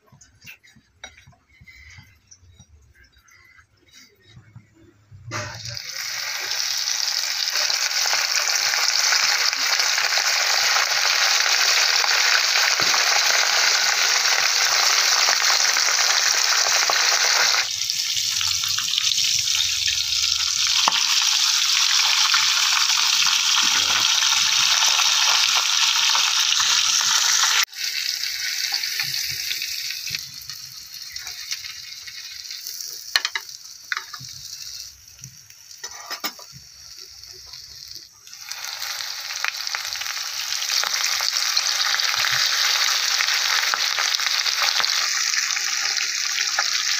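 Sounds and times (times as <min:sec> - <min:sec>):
fish sizzling in hot oil: 0:05.3 - 0:46.9
oil crackling: 0:05.7 - 0:35.9, 0:38.2 - 0:46.9.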